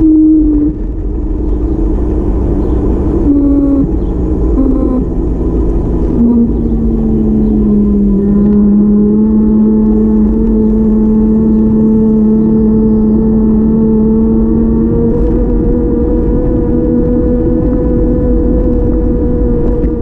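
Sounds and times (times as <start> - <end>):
car engine humming: 0.0 - 20.0
car road rumble: 0.0 - 20.0.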